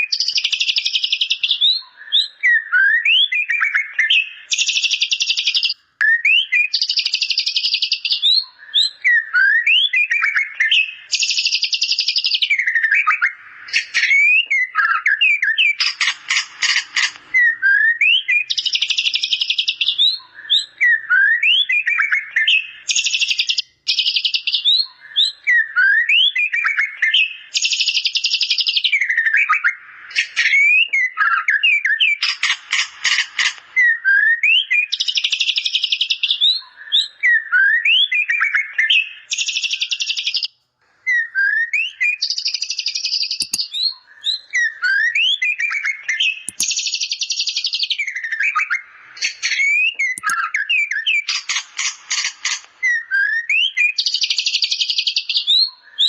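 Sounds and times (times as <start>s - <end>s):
bird singing with whistles and trills: 0.0s - 40.5s, 41.1s - 56.0s.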